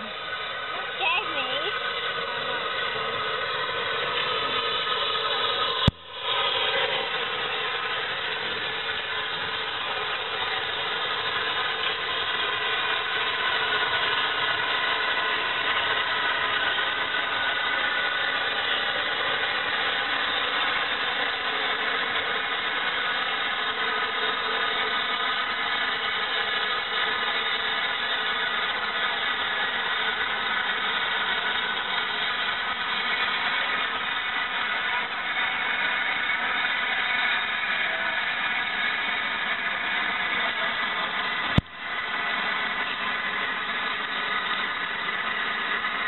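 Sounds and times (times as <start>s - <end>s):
steam locomotive hissing: 0.0s - 46.0s.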